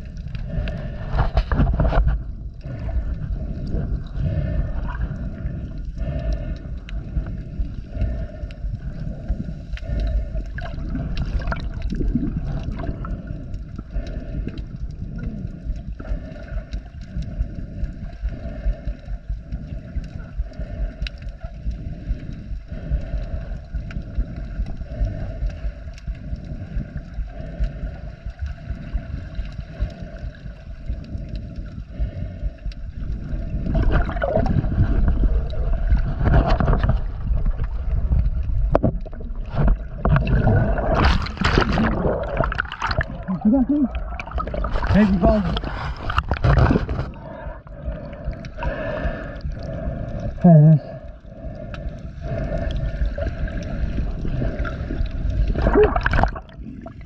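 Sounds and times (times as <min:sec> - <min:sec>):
rushing gurgling water: 0:00.0 - 0:18.9, 0:19.5 - 0:57.0
muffled underwater rumble: 0:00.0 - 0:57.0.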